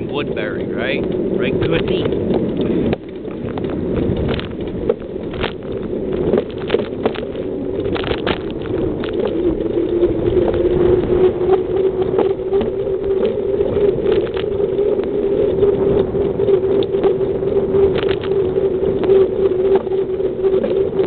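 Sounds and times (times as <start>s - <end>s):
bicycle rattling clicks: 0.0s - 21.0s
bicycle riding on paved road: 0.0s - 21.0s.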